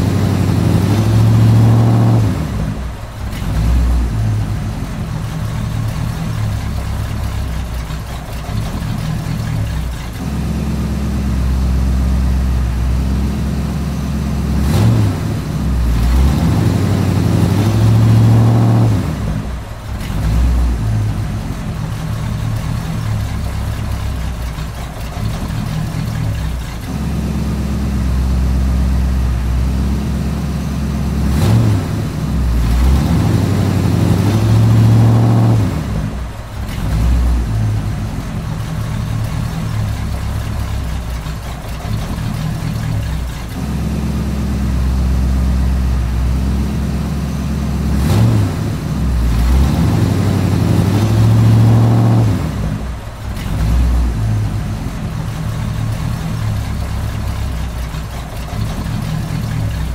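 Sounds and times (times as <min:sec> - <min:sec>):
model construction machine engine drone: 0:00.0 - 0:59.9.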